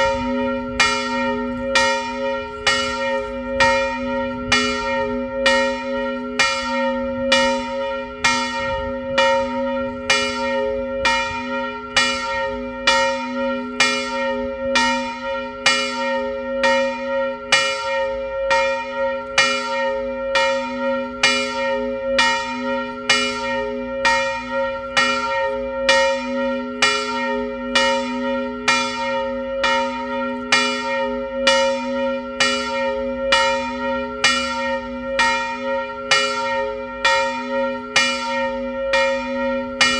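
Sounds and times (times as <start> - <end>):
church bell ringing: 0.0 - 39.9.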